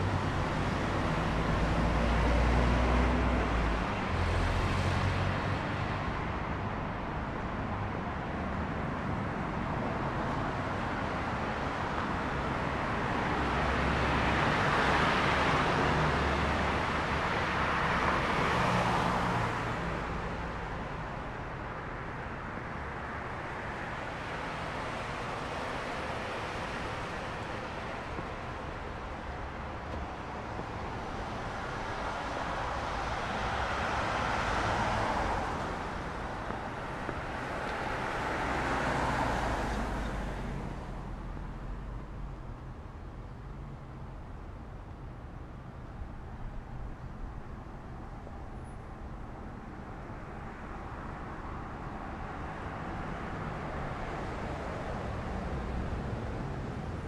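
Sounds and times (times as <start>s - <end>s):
cars passing: 0.0s - 57.0s
road noise hum: 0.0s - 57.0s.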